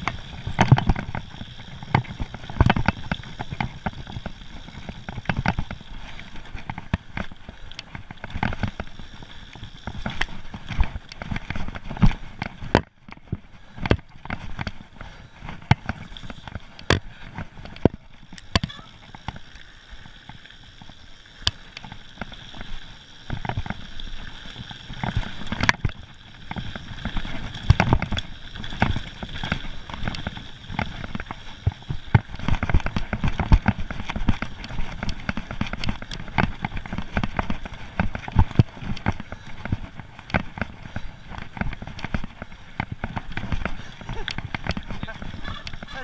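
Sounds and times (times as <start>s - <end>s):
bike clattering over stones: 0.0s - 46.0s
tyres crunching on gravel: 0.0s - 46.0s.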